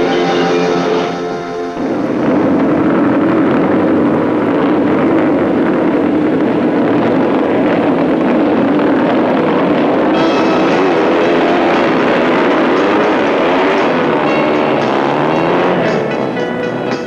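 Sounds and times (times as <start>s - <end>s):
motocross bike engines running: 1.8s - 17.0s.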